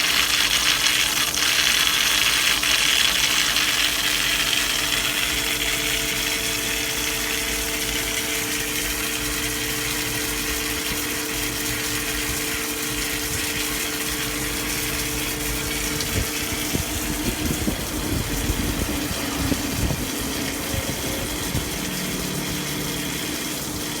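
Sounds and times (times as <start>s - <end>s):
coolant spraying and splashing: 0.0s - 24.0s
lathe motor hum: 0.0s - 24.0s.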